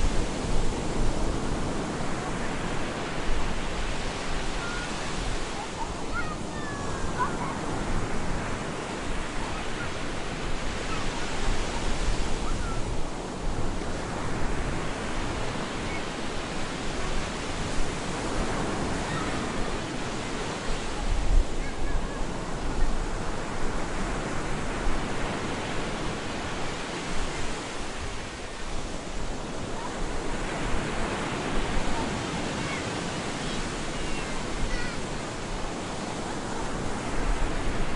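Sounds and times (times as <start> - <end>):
waves breaking on a beach: 0.0 - 37.9.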